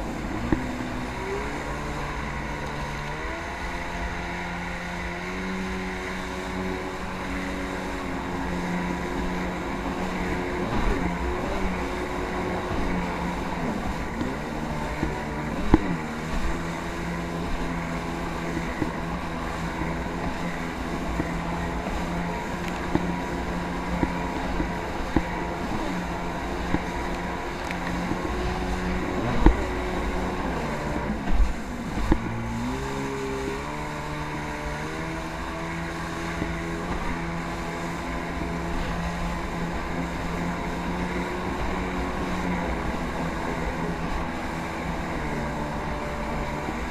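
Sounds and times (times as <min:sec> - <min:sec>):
jet ski engine: 0:00.0 - 0:46.9
wind on microphone: 0:00.0 - 0:46.9.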